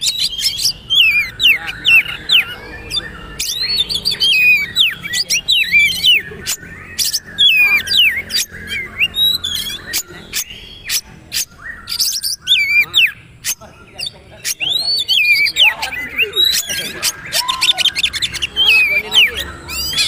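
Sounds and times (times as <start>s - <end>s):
bird whistled song: 0.0s - 20.0s.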